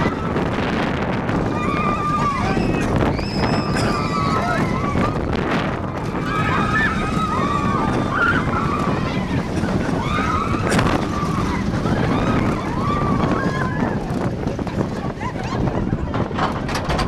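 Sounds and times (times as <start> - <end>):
riders whooping: 0.0 - 16.8
roller coaster wheels rumbling: 0.0 - 17.0
wind on microphone: 0.0 - 17.0.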